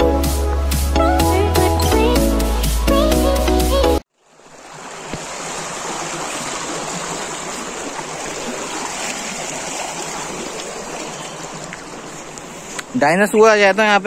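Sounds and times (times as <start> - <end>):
water rushing along channel: 0.0 - 14.0.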